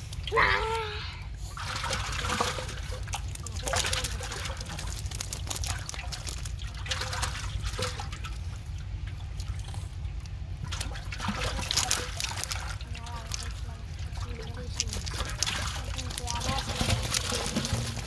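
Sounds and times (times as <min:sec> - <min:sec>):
small wet clicks and rustles: 0:00.0 - 0:18.0
water trickling and dripping: 0:00.0 - 0:18.0.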